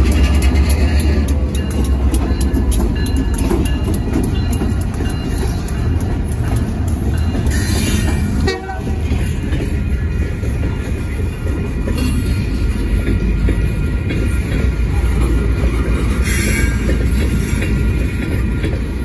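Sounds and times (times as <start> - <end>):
diesel locomotive engine rumbling: 0.0 - 19.0
train wheels clacking: 0.0 - 19.0.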